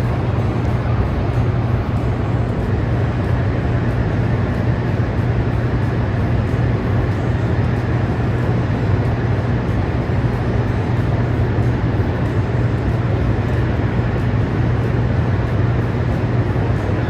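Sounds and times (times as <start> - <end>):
deep generator hum: 0.0 - 17.0
rushing water drone: 0.0 - 17.0.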